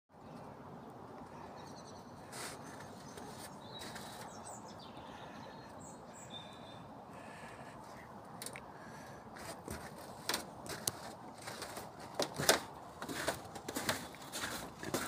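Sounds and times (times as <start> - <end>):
outdoor background hiss: 0.2 - 14.5.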